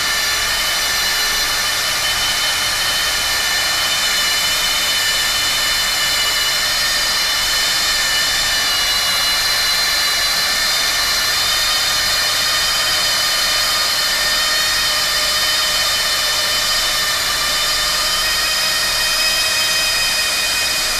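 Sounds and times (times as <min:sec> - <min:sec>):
welding machine high whine: 0:00.0 - 0:20.9.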